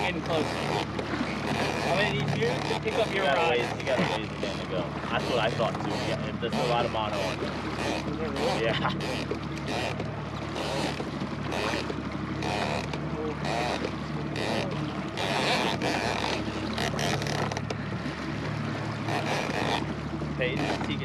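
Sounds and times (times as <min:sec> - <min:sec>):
outboard motor humming: 0:00.0 - 0:21.0
wind and water noise: 0:00.0 - 0:21.0.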